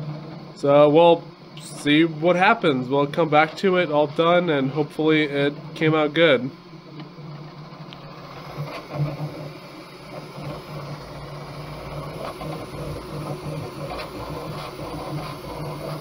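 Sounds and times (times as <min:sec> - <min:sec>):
printer motors whirring: 0:00.0 - 0:16.0.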